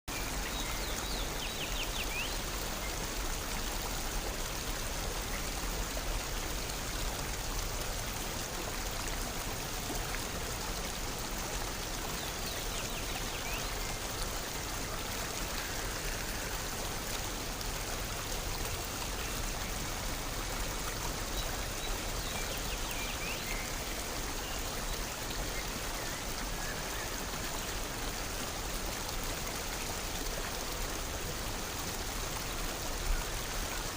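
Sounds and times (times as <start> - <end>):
stream water running: 0.1 - 33.9.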